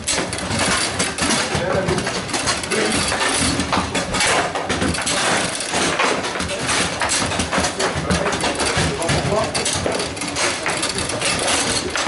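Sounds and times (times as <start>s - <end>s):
ball knocking against figures: 0.0s - 12.0s
clatter of other tables: 0.0s - 12.0s
table football rods clacking: 0.0s - 12.0s.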